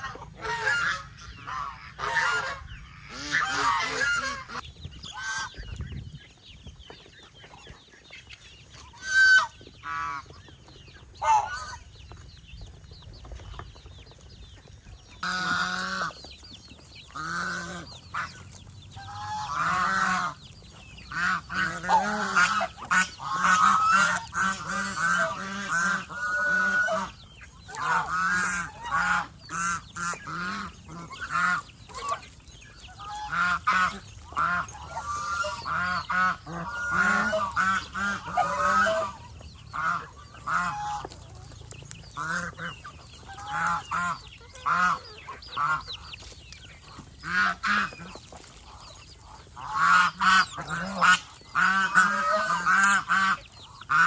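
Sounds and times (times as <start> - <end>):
geese honking: 0.0 - 5.6, 8.7 - 10.4, 11.2 - 11.9, 15.2 - 16.3, 17.0 - 54.0.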